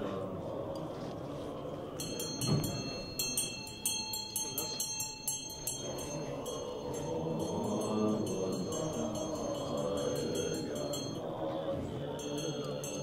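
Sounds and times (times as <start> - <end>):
low male voices chanting: 0.0 - 13.0.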